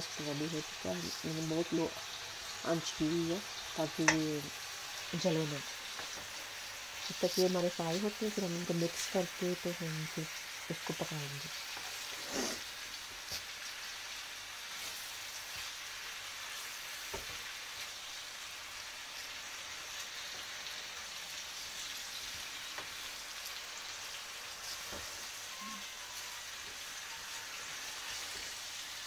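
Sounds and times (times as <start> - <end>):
zucchini sizzling in oil: 0.0 - 29.0.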